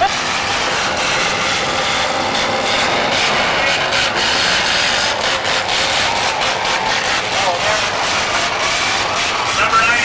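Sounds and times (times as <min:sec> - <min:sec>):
car engines running: 0:00.0 - 0:10.0.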